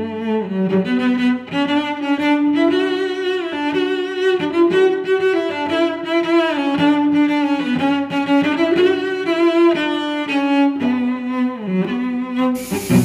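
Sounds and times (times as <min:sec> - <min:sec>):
bowed strings melody: 0:00.0 - 0:13.0.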